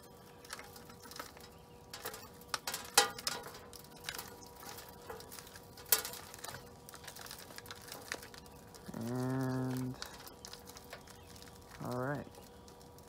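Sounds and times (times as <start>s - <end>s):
soil crumbling and pattering: 0.0s - 13.0s.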